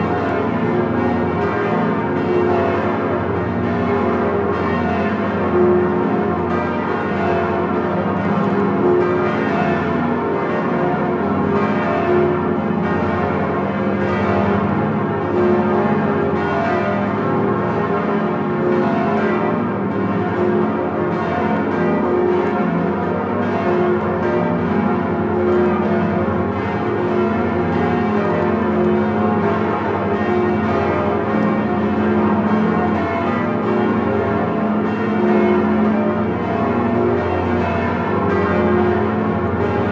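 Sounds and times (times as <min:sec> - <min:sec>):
church bells ringing in full peal: 0:00.0 - 0:39.9.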